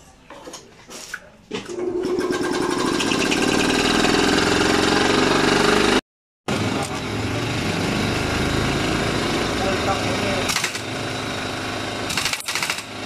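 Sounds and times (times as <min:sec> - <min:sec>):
air compressor chugging: 0:01.7 - 0:13.0.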